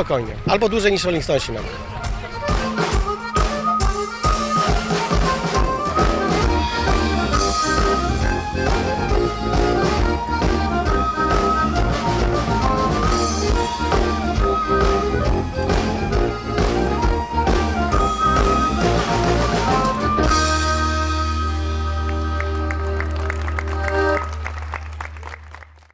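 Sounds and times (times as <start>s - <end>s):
fiddle melody: 0.0s - 24.7s
folk-rock band playing: 0.0s - 25.0s.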